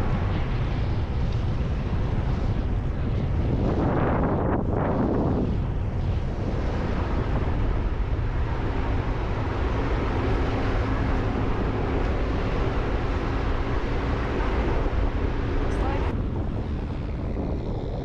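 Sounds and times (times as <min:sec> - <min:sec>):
motor vehicle running: 0:00.0 - 0:18.0
wind buffeting microphone: 0:00.0 - 0:18.0.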